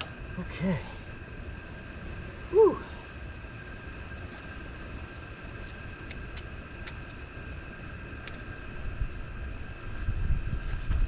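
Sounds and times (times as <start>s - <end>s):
wind rumbling on microphone: 1.0s - 11.0s.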